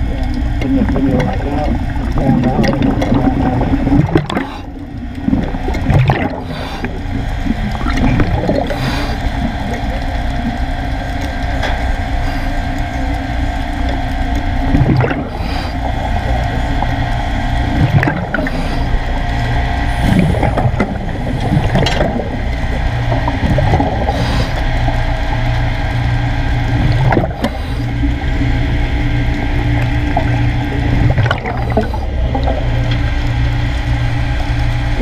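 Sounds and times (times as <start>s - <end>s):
bubbling gurgles: 0.0s - 35.0s
low rumble: 0.0s - 35.0s
underwater hum: 0.0s - 35.0s.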